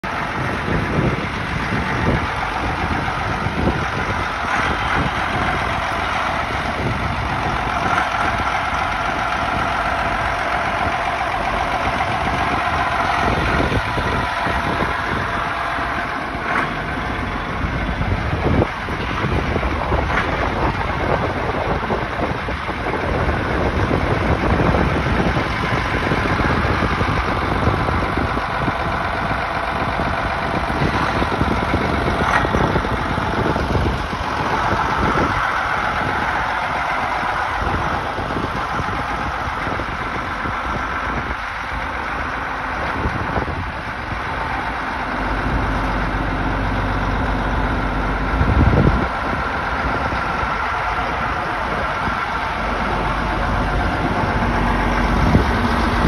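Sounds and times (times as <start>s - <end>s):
diesel tractor engine idling: 0.0s - 56.0s.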